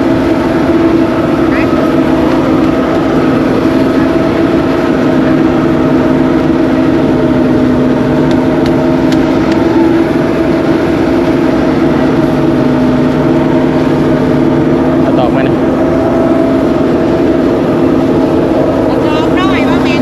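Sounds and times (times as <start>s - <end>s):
threshing machine running: 0.0s - 20.0s.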